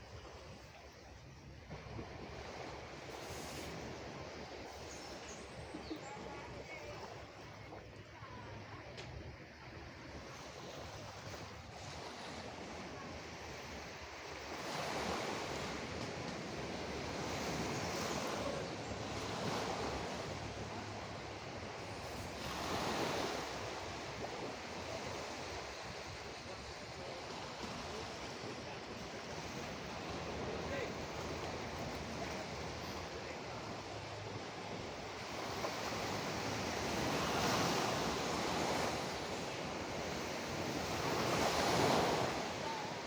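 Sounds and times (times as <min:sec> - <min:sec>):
sea waves breaking: 0:00.0 - 0:43.0.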